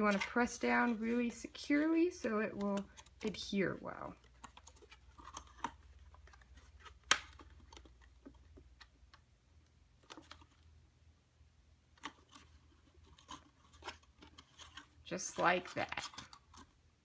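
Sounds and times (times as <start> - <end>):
light taps and crinkles: 0.0 - 9.3, 11.9 - 16.7.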